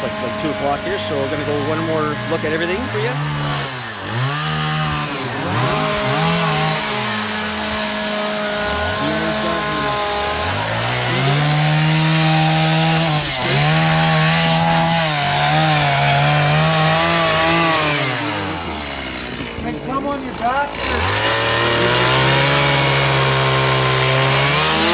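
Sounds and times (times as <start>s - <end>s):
chainsaws cutting wood: 0.0s - 24.9s.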